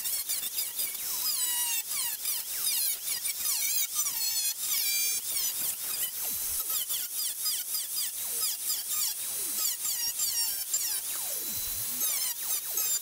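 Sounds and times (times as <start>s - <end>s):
cutoff wheel cutting metal: 0.0s - 13.0s.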